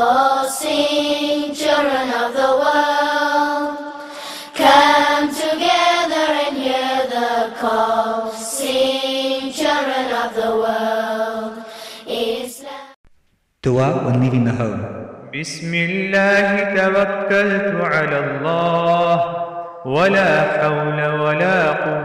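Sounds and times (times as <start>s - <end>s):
voices singing chant-like notes: 0.0s - 13.0s, 15.4s - 22.0s.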